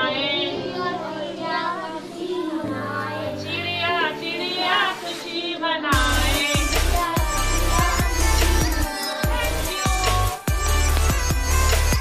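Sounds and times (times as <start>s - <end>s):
children singing: 0.0s - 5.3s, 6.0s - 12.0s
background music with low notes: 0.0s - 12.0s
woman singing: 0.0s - 12.0s.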